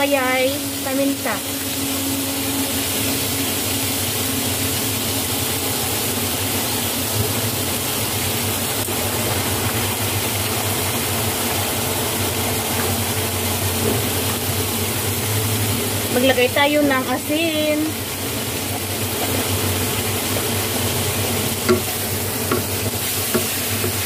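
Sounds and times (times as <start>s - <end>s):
chicken sizzling in oil: 0.0s - 24.0s
fan whirring hum: 0.0s - 24.0s.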